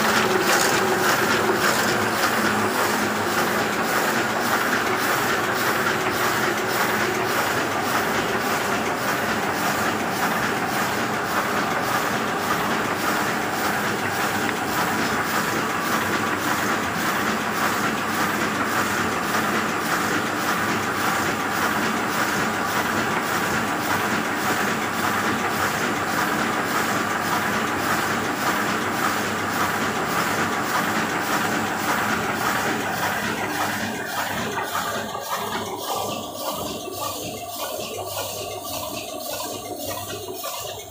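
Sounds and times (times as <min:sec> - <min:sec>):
printing press clattering: 0:00.0 - 0:40.9.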